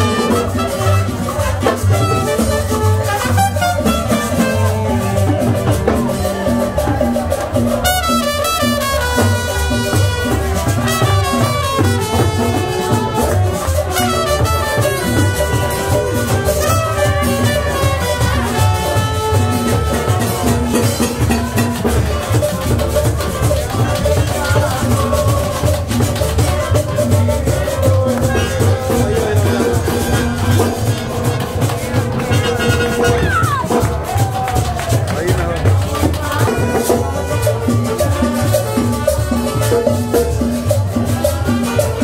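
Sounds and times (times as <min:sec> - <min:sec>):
trumpet melody: 0:00.0 - 0:34.9, 0:35.9 - 0:42.0
steady drum beat: 0:00.0 - 0:42.0.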